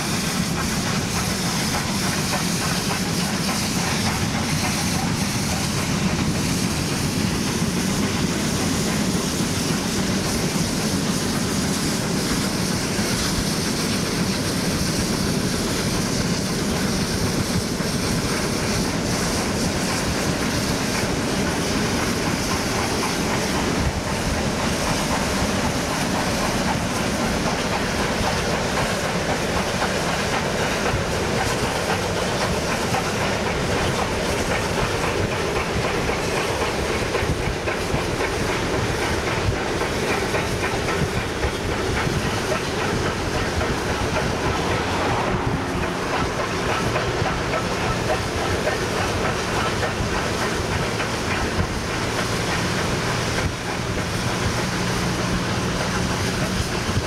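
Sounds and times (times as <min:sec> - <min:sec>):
steam hiss: 0:00.0 - 0:57.0
steam locomotive exhaust: 0:00.0 - 0:57.0
train wheels on rails: 0:00.0 - 0:57.0.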